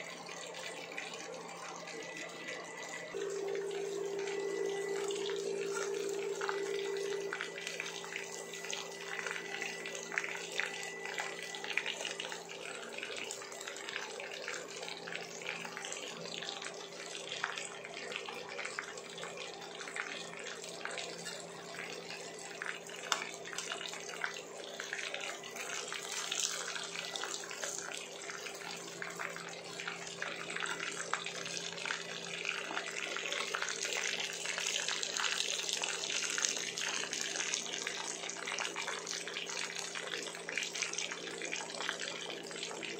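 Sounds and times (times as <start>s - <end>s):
chicken sizzling in hot oil: 5.7s - 42.9s.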